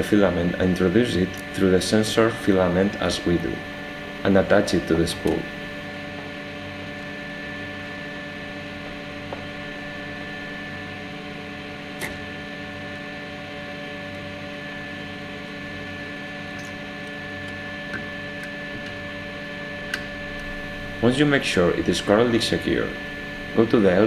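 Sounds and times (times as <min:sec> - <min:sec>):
extruder mechanical hum: 0:00.0 - 0:24.0
thin high whine: 0:00.0 - 0:24.0.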